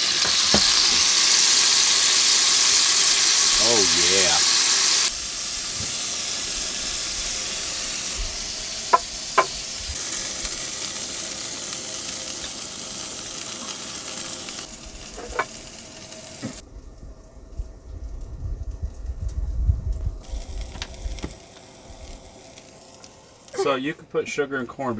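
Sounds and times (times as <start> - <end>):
steaks sizzling in a skillet: 0.0 - 16.6, 20.2 - 23.7.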